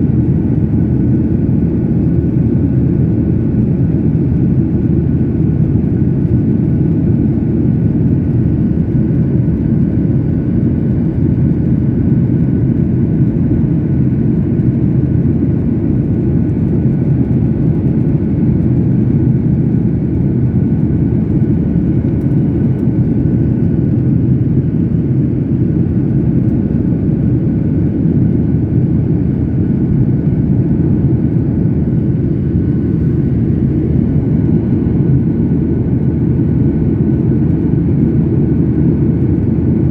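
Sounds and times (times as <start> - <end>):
jet engines and airflow rushing: 0.0 - 39.9.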